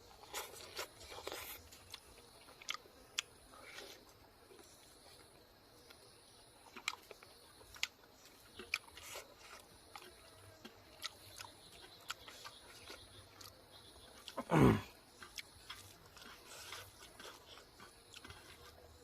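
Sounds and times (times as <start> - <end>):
close chewing: 0.0 - 19.0.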